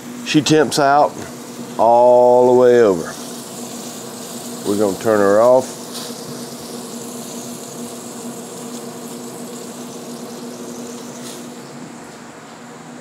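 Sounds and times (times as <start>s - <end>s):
fan electric hum: 0.0s - 13.0s.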